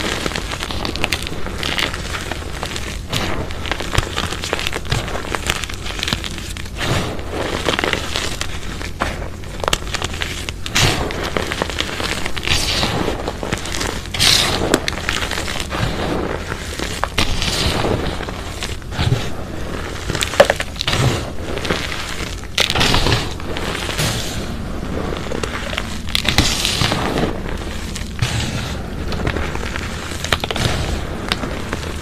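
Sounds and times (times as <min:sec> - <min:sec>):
hands crunching chalk powder: 0:00.0 - 0:32.0.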